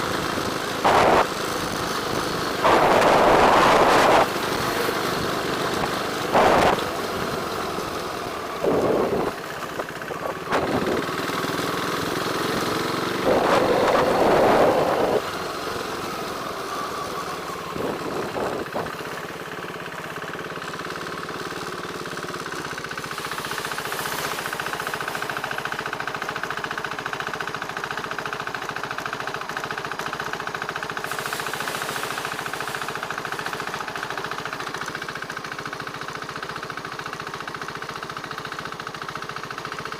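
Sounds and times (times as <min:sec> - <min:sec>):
motorcycle engine running: 0:00.0 - 0:39.9
traffic: 0:00.0 - 0:39.9.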